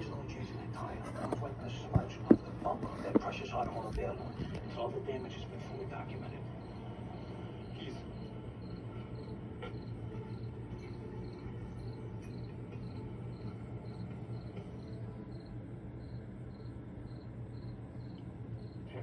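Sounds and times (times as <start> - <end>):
cricket chirping: 0.0 - 19.0
low steady hum: 0.0 - 19.0.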